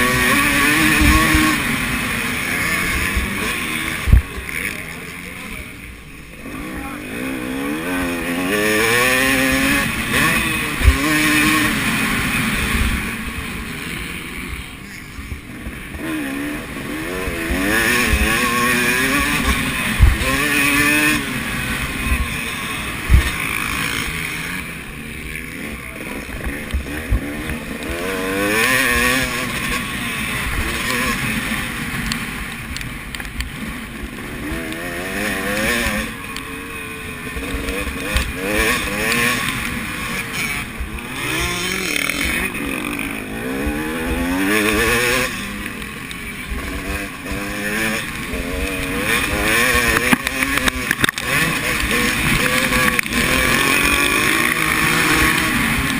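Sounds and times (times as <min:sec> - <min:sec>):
motocross bike engines revving: 0:00.0 - 0:55.9.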